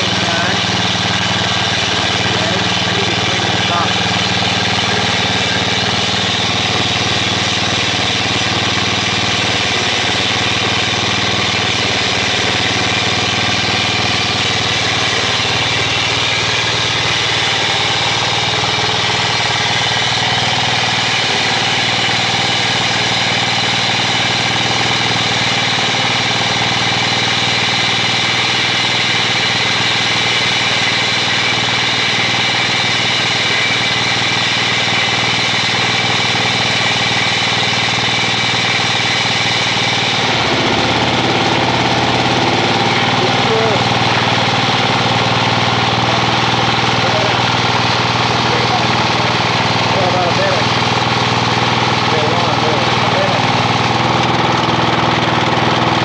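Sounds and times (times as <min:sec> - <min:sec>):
core drill cutting concrete: 0:00.0 - 0:56.0.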